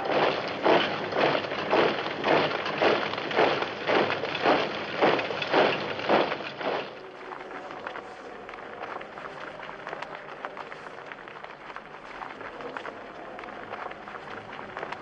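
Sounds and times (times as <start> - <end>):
boots marching on dirt road: 0.0 - 15.0.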